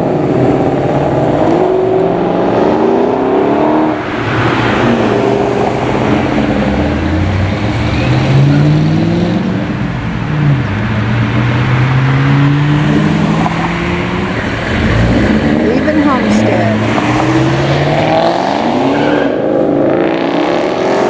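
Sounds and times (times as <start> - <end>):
cars accelerating past: 0.0 - 21.0.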